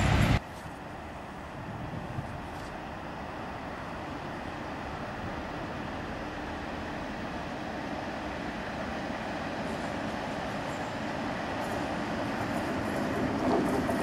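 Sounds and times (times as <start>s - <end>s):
distant diesel locomotive rumble: 0.0s - 14.0s.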